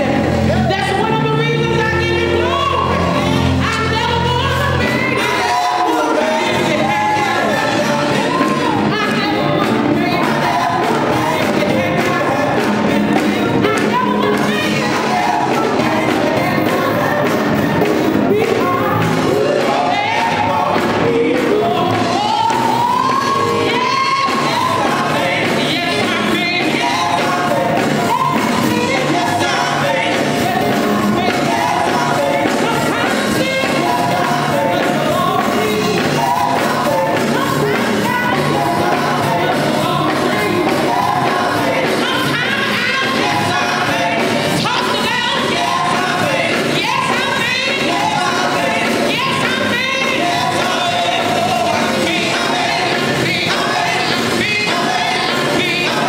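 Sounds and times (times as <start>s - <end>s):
drums: 0.0s - 56.0s
keyboard: 0.0s - 56.0s
women singing gospel: 0.0s - 56.0s.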